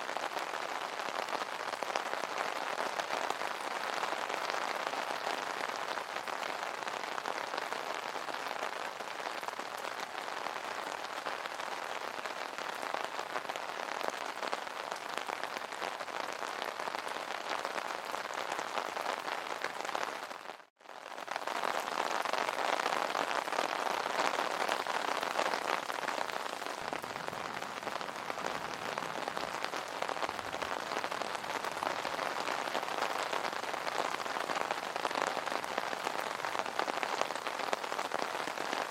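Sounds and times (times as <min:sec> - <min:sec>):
rain on an umbrella: 0:00.0 - 0:38.9.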